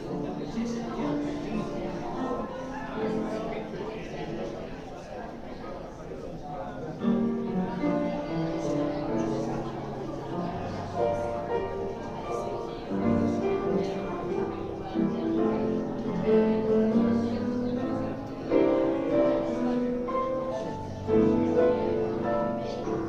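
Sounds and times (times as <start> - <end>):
piano music: 0.0 - 4.1, 7.0 - 23.0.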